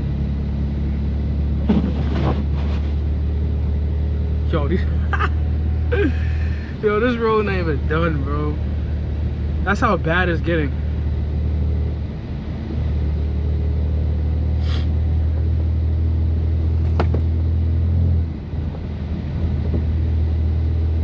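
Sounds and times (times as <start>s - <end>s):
car engine low drone: 0.0s - 21.0s.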